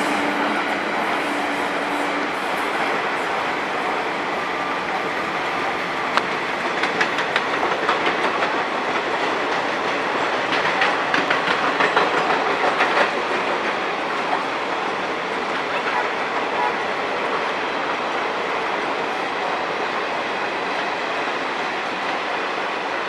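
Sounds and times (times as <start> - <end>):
clickety-clack over rail joints: 0.0 - 23.0
train wheels rushing on rail: 0.0 - 23.0.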